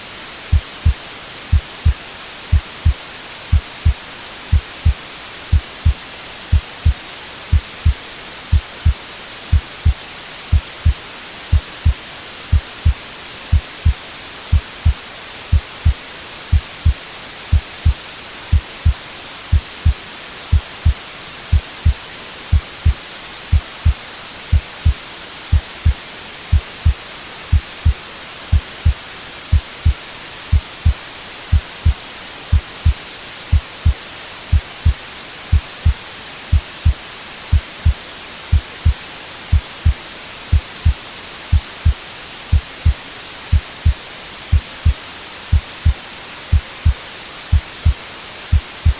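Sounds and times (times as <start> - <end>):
white noise hiss: 0.0 - 48.9
heartbeat thumps: 0.5 - 48.9.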